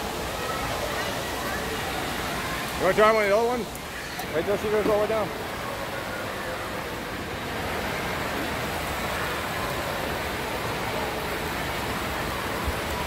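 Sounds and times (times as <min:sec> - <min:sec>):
water rushing down a slide: 0:00.0 - 0:13.0.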